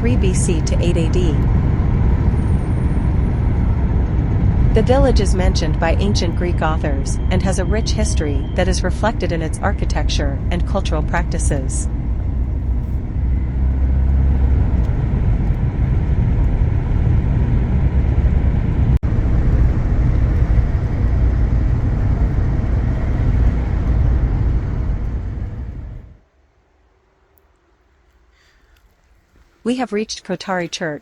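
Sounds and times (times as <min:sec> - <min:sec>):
car road and engine rumble: 0:00.0 - 0:26.2.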